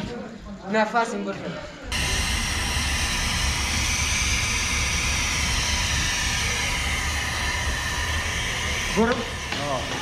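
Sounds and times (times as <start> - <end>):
gas burner flame hissing: 1.9 - 10.0.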